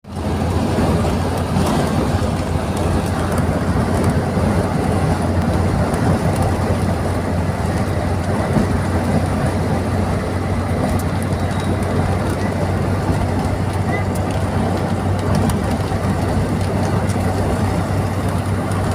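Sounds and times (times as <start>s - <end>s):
deep rumble: 0.0s - 18.9s
heavy rain in strong wind: 0.0s - 18.9s.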